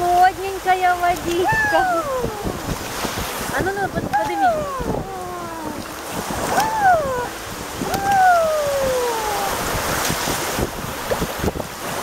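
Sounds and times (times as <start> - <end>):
small waves washing: 0.0 - 12.0
wind on microphone: 0.0 - 12.0.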